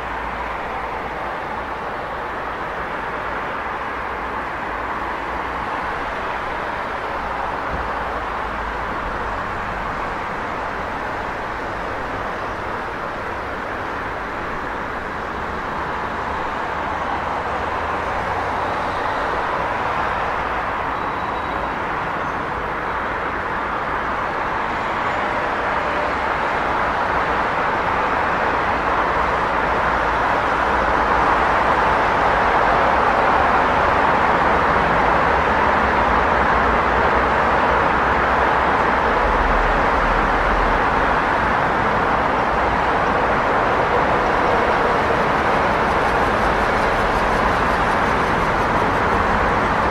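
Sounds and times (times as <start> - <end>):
city street traffic: 0.0 - 49.9
passing cars: 0.0 - 49.9.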